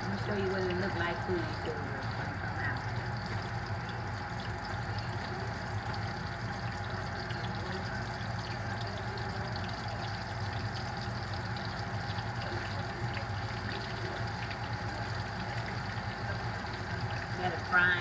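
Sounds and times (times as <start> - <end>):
constant low hum: 0.0 - 18.0
deep-frying sizzle and pops: 0.0 - 18.0.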